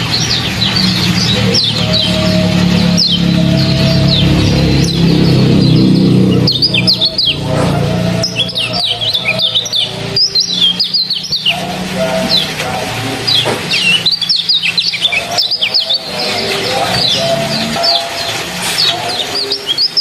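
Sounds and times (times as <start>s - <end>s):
low hum: 0.0s - 19.4s
trickling water: 0.0s - 20.0s.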